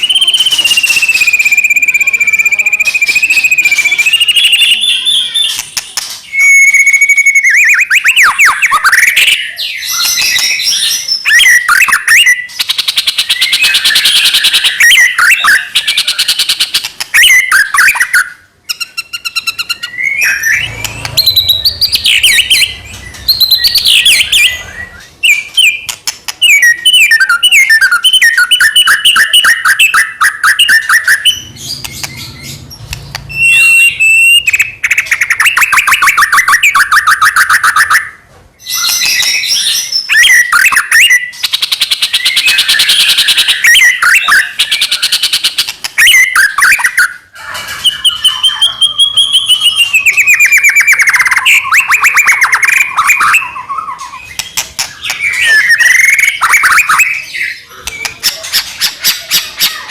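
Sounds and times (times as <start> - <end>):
bird singing whistled phrases: 0.0 - 47.2, 47.8 - 59.9.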